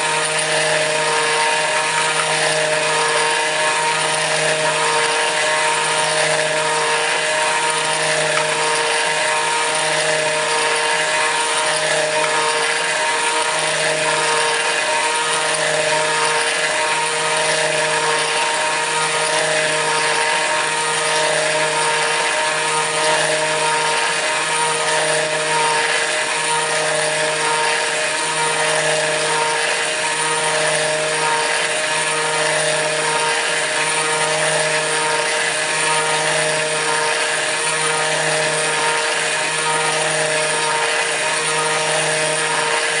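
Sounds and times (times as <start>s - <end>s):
milling cutting noise: 0.0s - 43.0s
router spindle whining: 0.0s - 43.0s.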